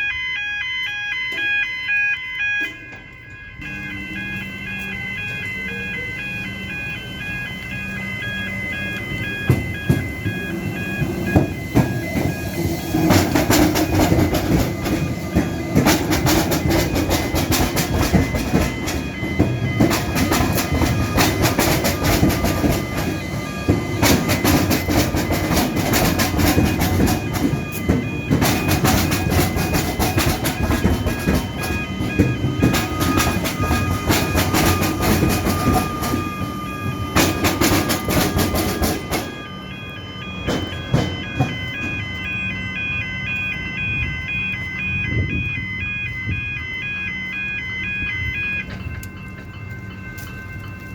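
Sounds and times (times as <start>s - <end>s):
level-crossing bells ringing: 0.0s - 50.9s
train wheels clattering over crossing: 2.6s - 46.5s, 48.0s - 50.9s.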